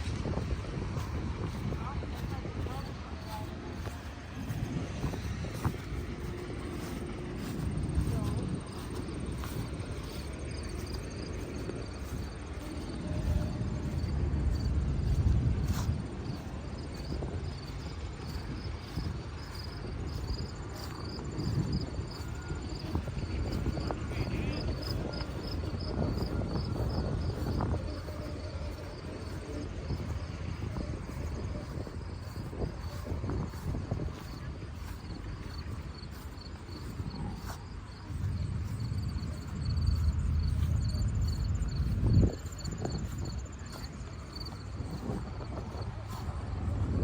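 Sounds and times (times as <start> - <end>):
insects chirping: 0.0 - 47.0
low uneven rumble: 0.0 - 47.0.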